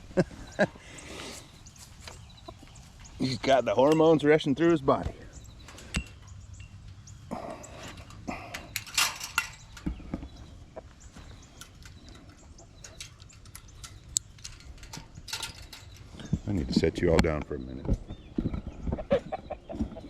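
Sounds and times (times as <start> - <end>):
chickens calling faintly: 0.0 - 20.0.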